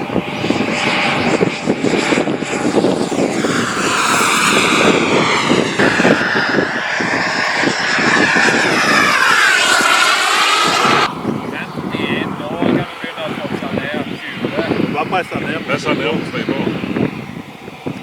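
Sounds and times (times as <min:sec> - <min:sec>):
model jet engine whine: 0:00.0 - 0:18.0
wind buffeting microphone: 0:00.0 - 0:18.0.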